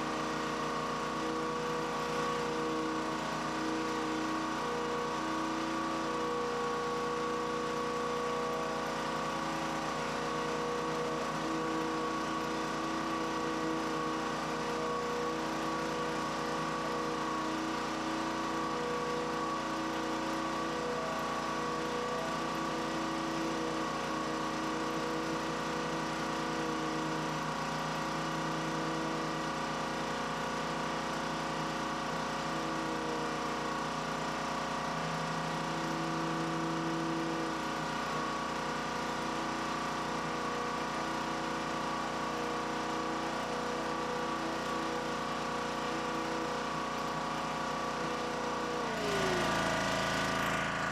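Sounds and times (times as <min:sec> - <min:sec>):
pressure washer engine running: 0:00.0 - 0:50.9.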